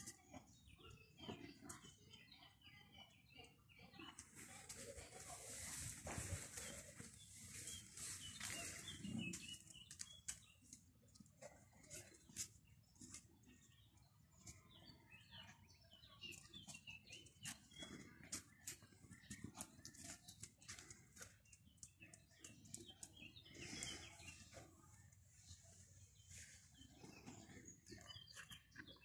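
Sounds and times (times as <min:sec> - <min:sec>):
faint small-bird chirps: 0:00.0 - 0:05.2, 0:07.2 - 0:29.0.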